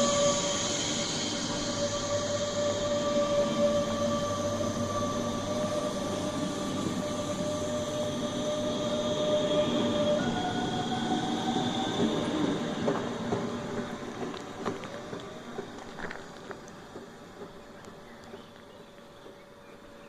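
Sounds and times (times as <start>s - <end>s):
electric train whining: 0.0s - 20.0s
train rumbling: 0.0s - 20.0s.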